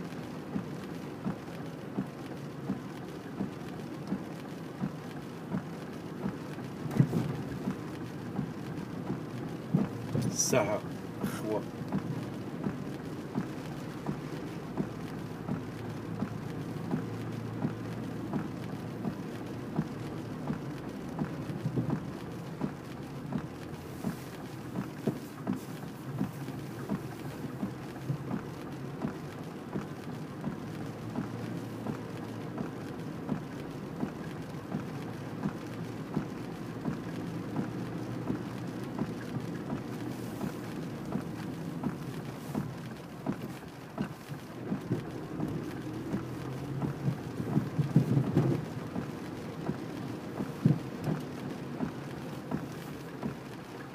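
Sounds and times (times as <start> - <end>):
engine and tyres on wet road: 0.0 - 53.9
rain ticking on car roof: 0.0 - 53.9.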